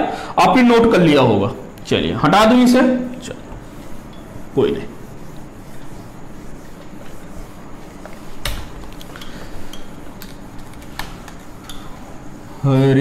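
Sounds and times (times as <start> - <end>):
whiteboard being wiped: 2.4 - 13.0.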